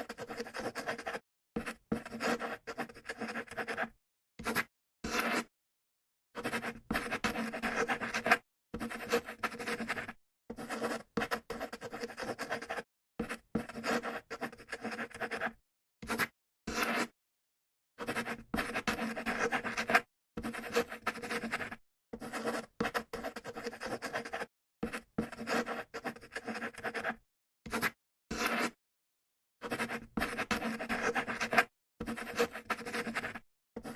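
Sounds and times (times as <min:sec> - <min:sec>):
pen scratching on paper: 0:00.0 - 0:05.5, 0:06.4 - 0:17.2, 0:18.0 - 0:28.8, 0:29.6 - 0:33.9.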